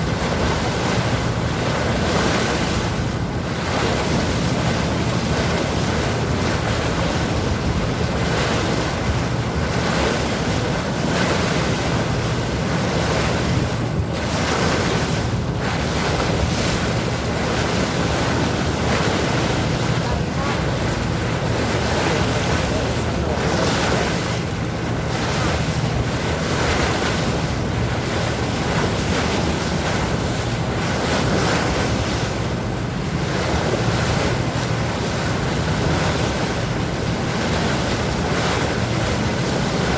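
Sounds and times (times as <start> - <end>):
boat engine drone: 0.0 - 39.9
sea water rushing: 0.0 - 39.9
waves splashing: 0.0 - 39.9
wind buffeting microphone: 0.0 - 39.9.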